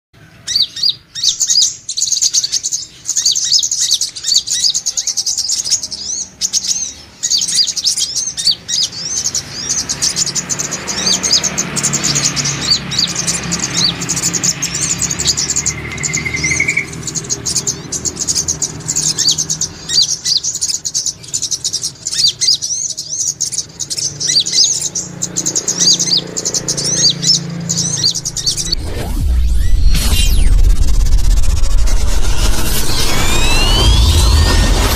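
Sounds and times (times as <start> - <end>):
bird twittering: 0.5 - 28.7.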